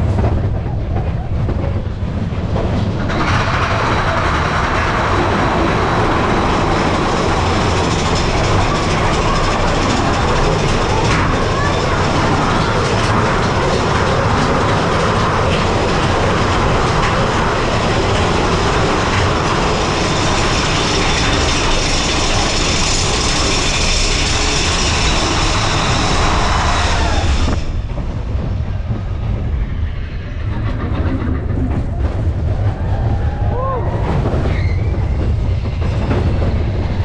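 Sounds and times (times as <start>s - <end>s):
roller coaster rumbling on track: 0.0s - 37.0s.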